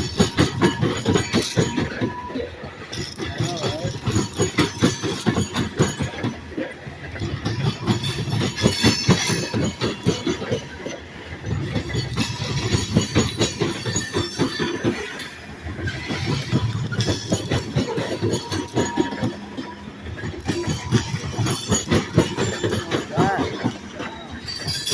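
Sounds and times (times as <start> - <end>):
train wheels clattering over rails: 0.0 - 24.9.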